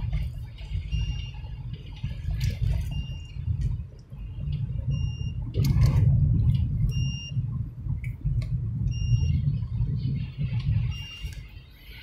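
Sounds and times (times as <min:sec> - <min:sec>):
road rumble inside car: 0:00.0 - 0:12.0.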